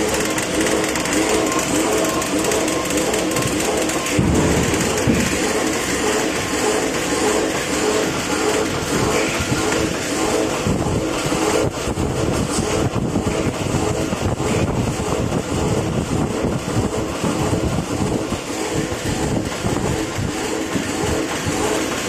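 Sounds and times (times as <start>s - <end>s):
packing machine running: 0.0s - 22.0s.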